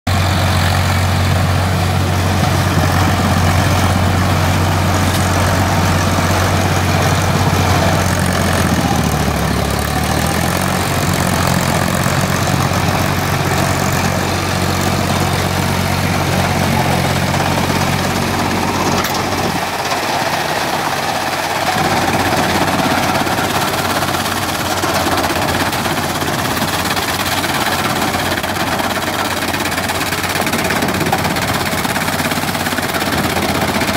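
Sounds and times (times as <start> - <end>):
tractor diesel engine under load: 0.0 - 33.9
cutter shredding plants: 0.1 - 33.9.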